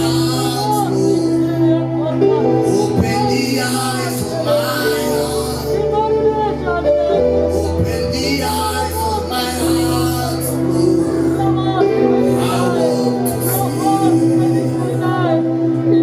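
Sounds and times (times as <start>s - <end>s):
bass line: 0.0s - 16.0s
keyboard chords: 0.0s - 16.0s
singing voices: 0.0s - 16.0s.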